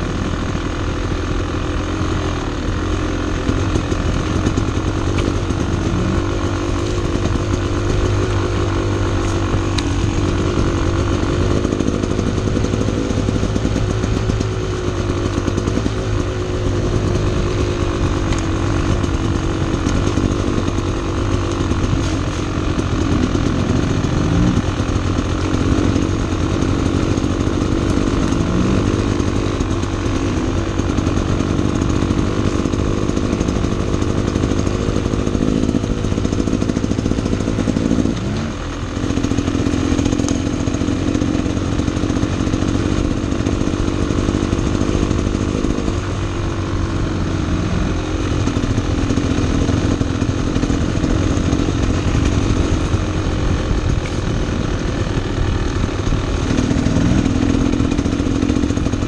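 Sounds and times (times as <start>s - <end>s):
two-stroke dirt bike engine: 0.0s - 59.0s.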